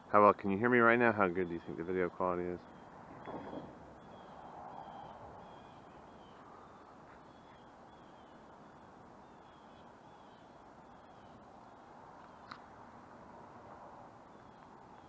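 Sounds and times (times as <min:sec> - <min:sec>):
faint open-air background noise: 0:00.0 - 0:15.0.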